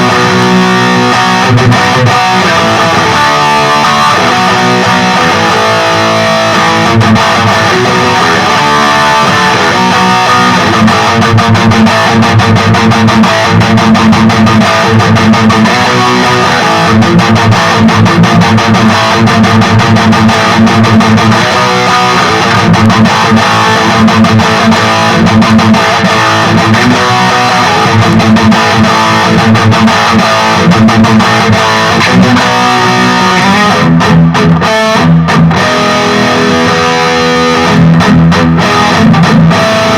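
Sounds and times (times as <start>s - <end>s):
distorted electric guitar riffing: 0.0s - 39.9s.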